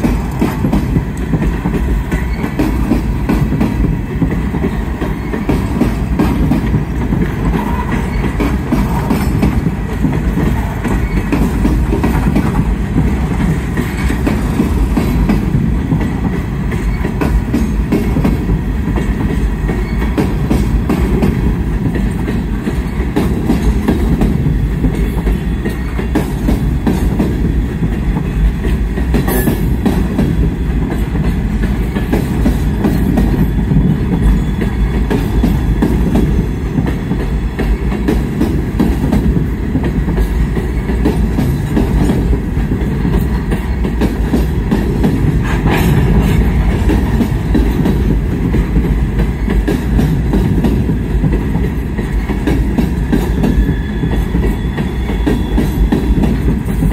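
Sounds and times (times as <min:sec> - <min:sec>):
clacks over rail joints: 0:00.0 - 0:56.9
train wheels rumbling on rail: 0:00.0 - 0:56.9.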